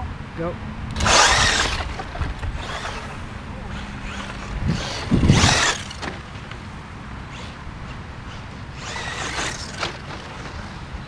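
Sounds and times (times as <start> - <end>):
high motor whine: 0.8 - 11.0
rc truck motor and tyre noise: 0.9 - 11.0.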